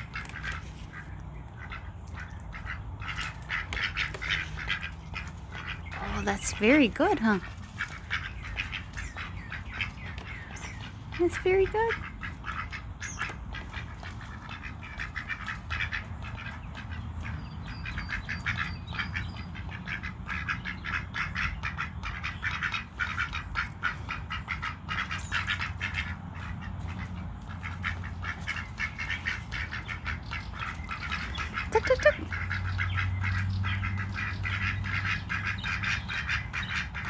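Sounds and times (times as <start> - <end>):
ducks quacking softly: 0.0 - 37.0.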